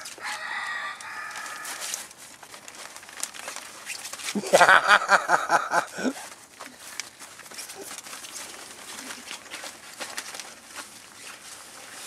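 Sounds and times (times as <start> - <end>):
fabric tunnel rustling: 0.0 - 12.0.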